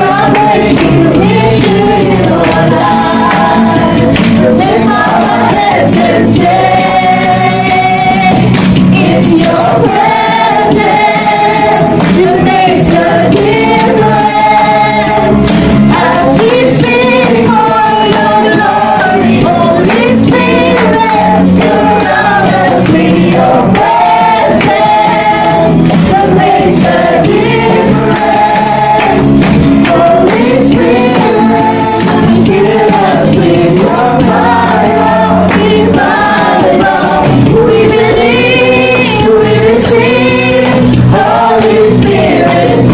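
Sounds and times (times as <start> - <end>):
group singing worship song: 0.0 - 42.9
steady beat: 0.0 - 42.9.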